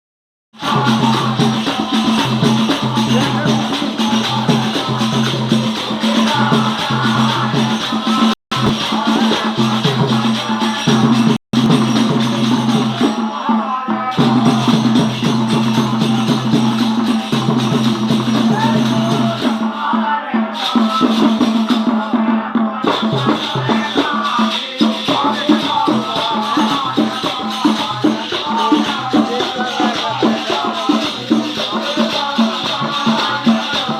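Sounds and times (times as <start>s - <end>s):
rattling shaker beat: 0.6s - 13.2s, 14.0s - 19.9s, 22.8s - 33.9s.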